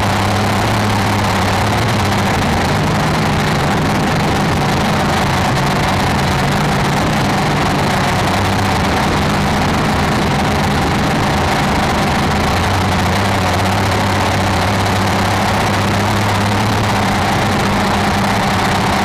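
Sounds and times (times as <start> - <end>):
drone propellers humming: 0.0 - 19.0.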